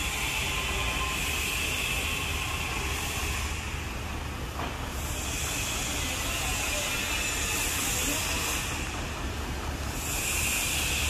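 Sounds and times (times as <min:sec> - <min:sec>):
hiss: 0:00.0 - 0:11.0.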